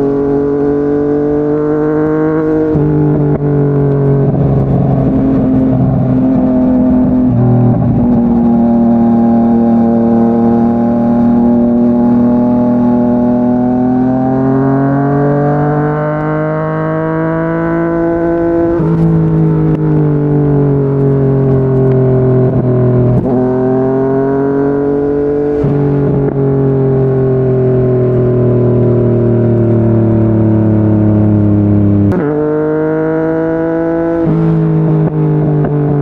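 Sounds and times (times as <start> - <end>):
motorcycle engine under load: 0.0 - 36.0.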